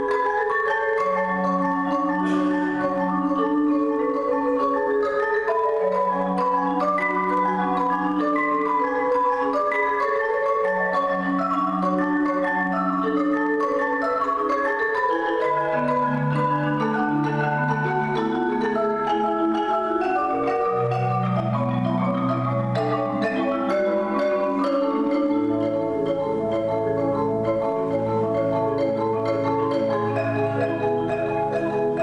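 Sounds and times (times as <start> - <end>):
marimbas playing: 0.0 - 32.0.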